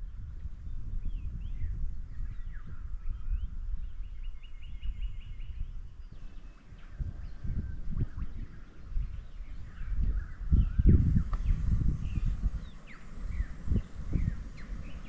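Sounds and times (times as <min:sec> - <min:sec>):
wind rumbling on microphone: 0:00.0 - 0:15.0
birds whistling calls: 0:01.0 - 0:15.0.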